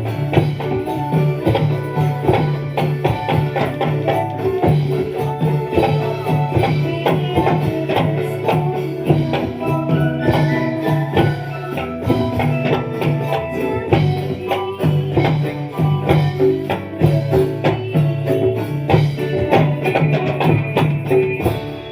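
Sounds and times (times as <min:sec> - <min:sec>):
drum strikes: 0:00.0 - 0:21.9
held melodic notes: 0:00.0 - 0:21.9.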